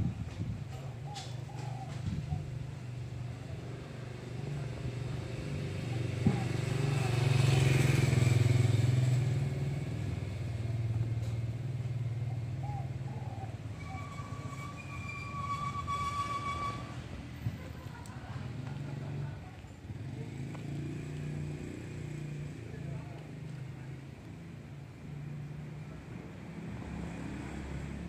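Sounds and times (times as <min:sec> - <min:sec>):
vehicle engine passing: 0:02.1 - 0:15.0, 0:17.0 - 0:28.0.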